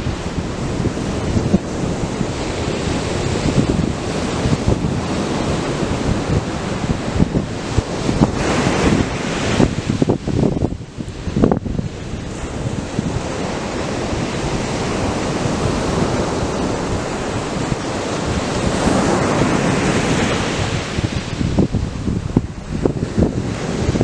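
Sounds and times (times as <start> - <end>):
surf breaking on a beach: 0.0 - 24.0.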